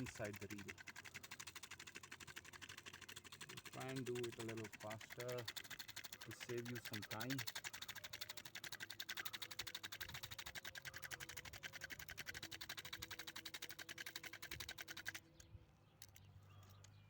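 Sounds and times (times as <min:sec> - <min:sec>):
fishing reel clicking: 0:00.0 - 0:15.4, 0:16.0 - 0:16.9.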